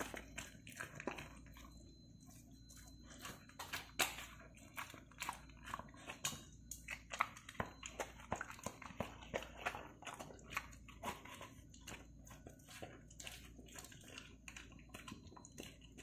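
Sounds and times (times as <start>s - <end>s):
dog chewing food: 0.0s - 16.0s.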